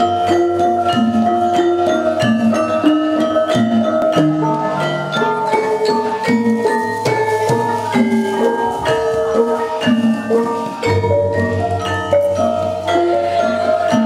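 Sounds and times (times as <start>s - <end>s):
gamelan ensemble playing: 0.0s - 14.0s
kettle gongs struck with mallets: 0.0s - 14.0s.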